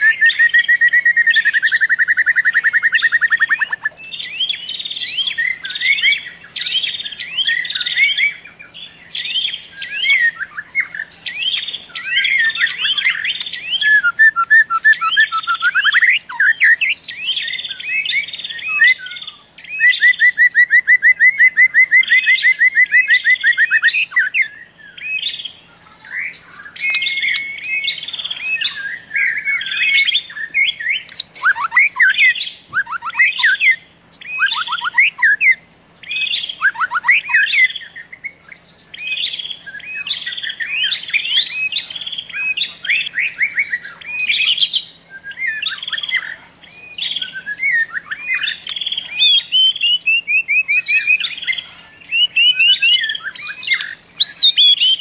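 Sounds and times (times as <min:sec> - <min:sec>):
birds chirping and trilling: 0:00.0 - 0:55.0
faint low hum: 0:00.0 - 0:55.0
fast even bird trill: 0:00.0 - 0:55.0.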